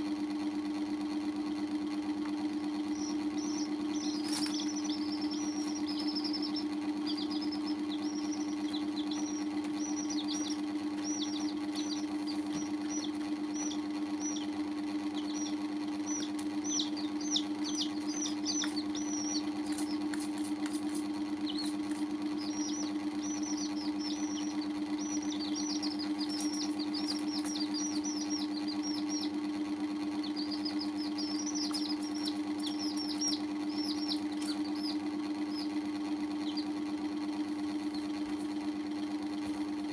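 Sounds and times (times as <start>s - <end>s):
baby chicks peeping: 0.0s - 39.9s
steady low hum: 0.0s - 39.9s.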